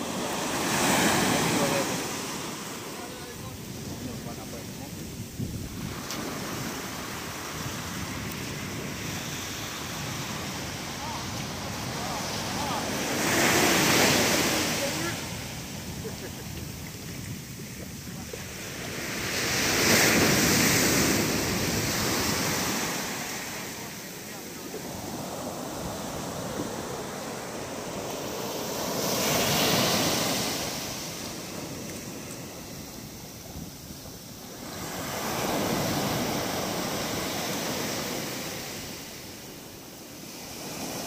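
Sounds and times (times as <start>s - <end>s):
sea wave washing on shore: 0.0s - 41.0s.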